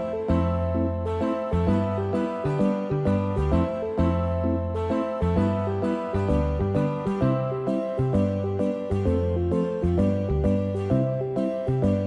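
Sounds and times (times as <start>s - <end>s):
music with quick notes and bass: 0.0s - 12.0s.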